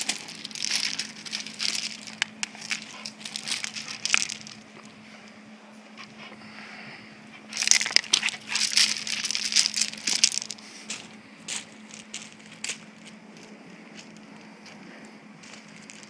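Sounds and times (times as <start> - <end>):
rocks crunching under dog paws: 0.0 - 5.4, 7.3 - 16.0.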